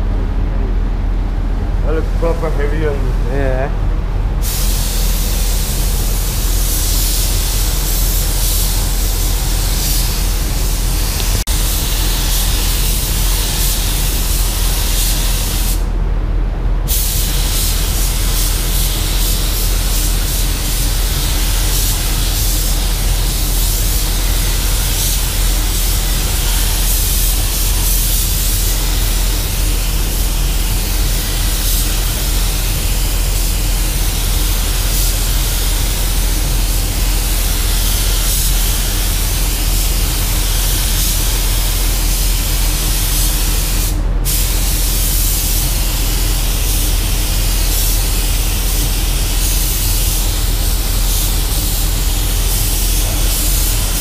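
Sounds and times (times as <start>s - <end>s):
spray gun hissing: 4.4s - 15.8s, 16.9s - 54.0s.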